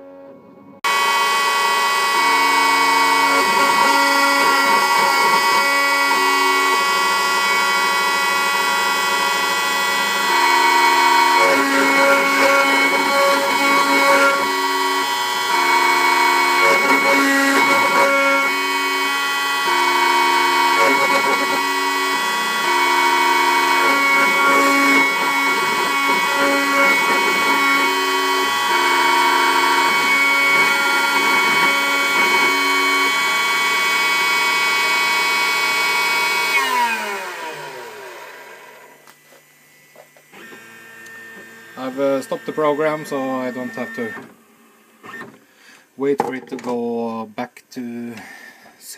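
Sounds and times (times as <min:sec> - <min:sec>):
motor tones changing pitch: 0:00.0 - 0:45.3
router spindle whining: 0:00.8 - 0:45.4.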